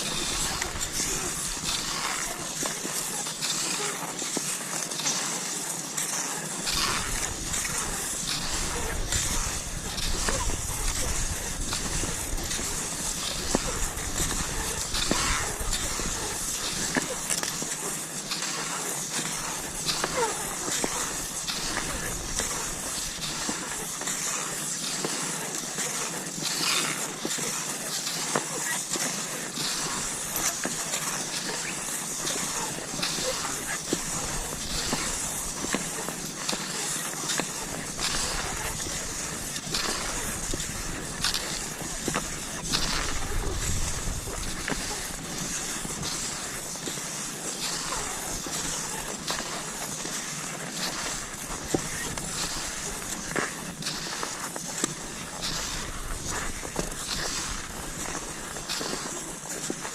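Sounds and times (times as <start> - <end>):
skis swishing over snow: 0.0 - 59.9
snow crunching: 0.0 - 59.9.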